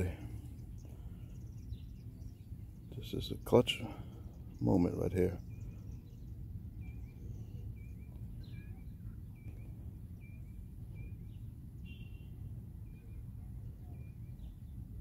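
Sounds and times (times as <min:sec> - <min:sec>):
low outdoor rumble: 0:00.0 - 0:15.0
songbird chirping: 0:00.0 - 0:15.0.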